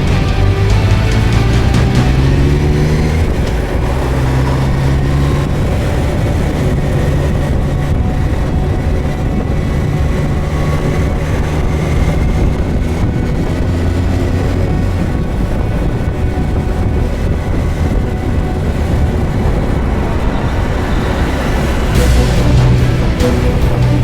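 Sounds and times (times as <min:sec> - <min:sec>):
motorcycle engine running: 0:00.0 - 0:19.7
rush of riding noise: 0:00.0 - 0:24.0.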